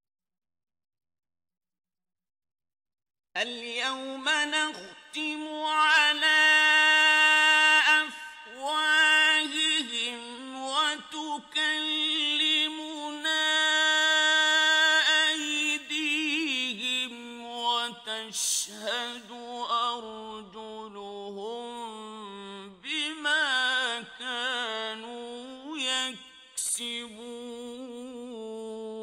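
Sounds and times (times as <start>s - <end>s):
man chanting melodically: 3.4s - 29.0s.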